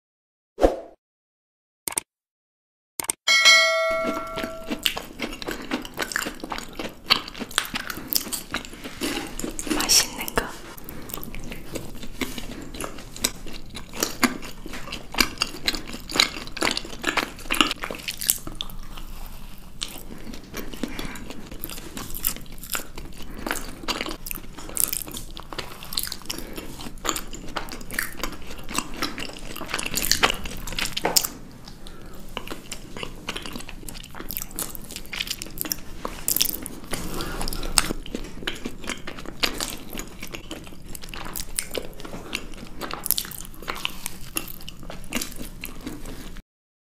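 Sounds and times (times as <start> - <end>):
people biting and chewing cakes: 4.7 - 46.4.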